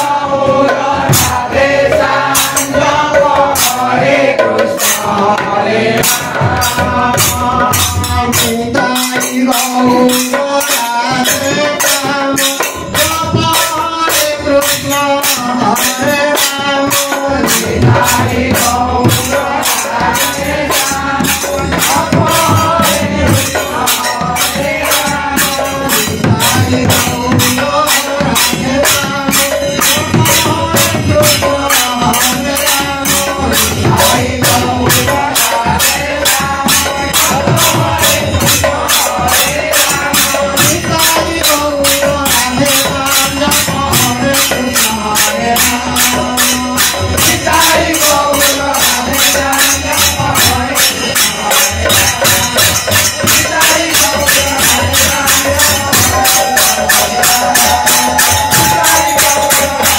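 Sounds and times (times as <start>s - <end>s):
barrel drum: 0.0s - 59.9s
hand cymbals clashing: 0.0s - 59.9s
men singing in a group: 0.0s - 59.9s.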